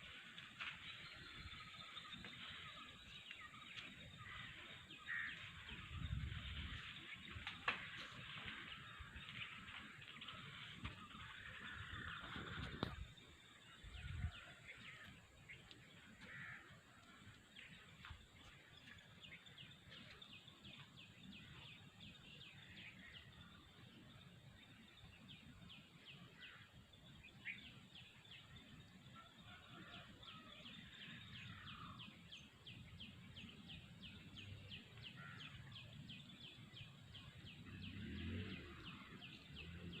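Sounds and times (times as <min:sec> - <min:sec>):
bird calls: 0:00.0 - 0:40.0.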